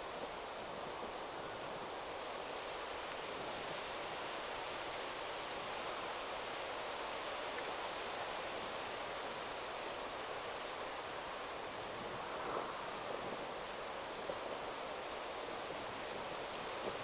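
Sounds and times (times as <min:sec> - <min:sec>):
wind rustling through trees: 0:00.0 - 0:17.0.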